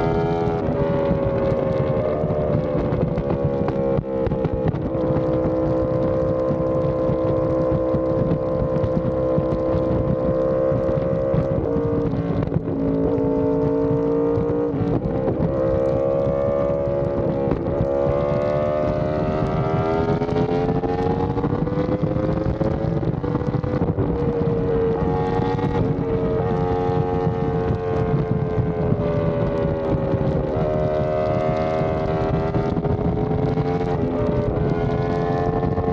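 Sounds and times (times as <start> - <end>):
motorcycle engine cruising: 0.0 - 35.9
rushing wind: 0.0 - 35.9.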